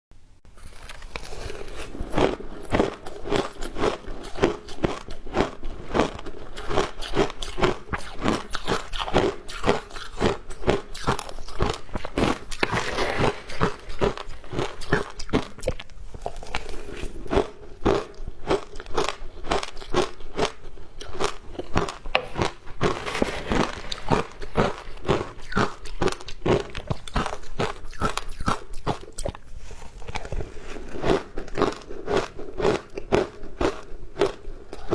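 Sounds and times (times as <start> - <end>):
ice being chewed: 0.5 - 34.9.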